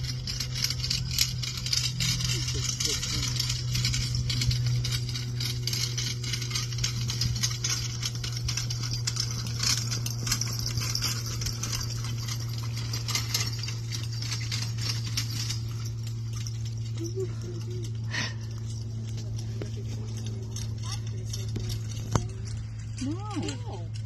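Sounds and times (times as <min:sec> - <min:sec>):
hooves and carriage rattling: 0:00.0 - 0:24.0
steady low hum: 0:00.0 - 0:24.0.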